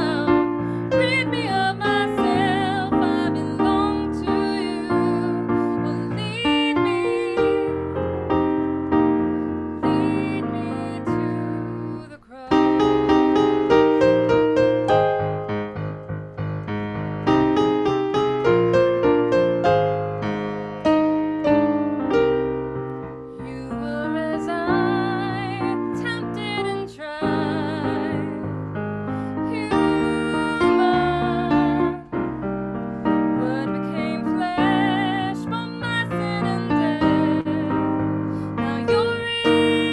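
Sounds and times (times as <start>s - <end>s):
slow piano piece: 0.0s - 39.9s.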